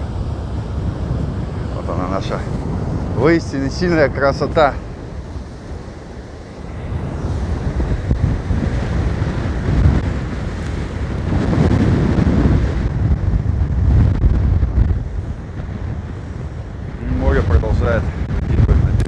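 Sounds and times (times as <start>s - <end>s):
waves breaking on shore: 0.0s - 19.0s
wind buffeting microphone: 0.0s - 19.0s.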